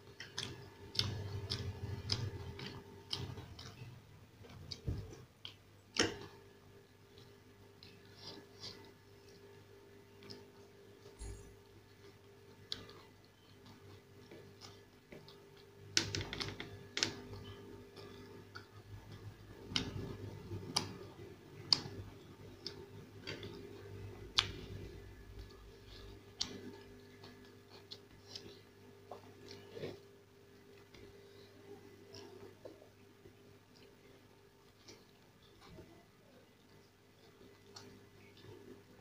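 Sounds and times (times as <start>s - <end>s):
person eating with clicks and smacks: 0.0s - 39.0s
soft chewing: 0.0s - 39.0s
steady low hum: 0.0s - 39.0s.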